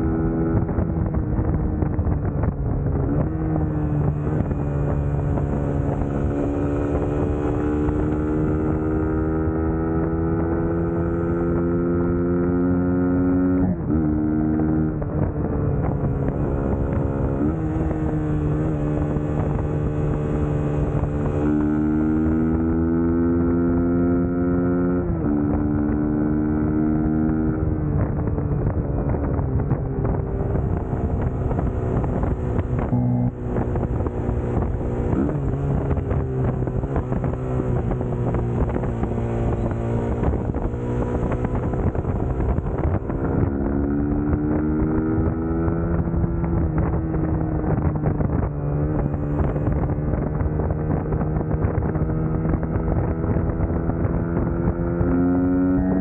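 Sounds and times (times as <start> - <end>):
motorcycle engine revving: 0.0 - 56.0
wind noise on microphone: 0.0 - 56.0.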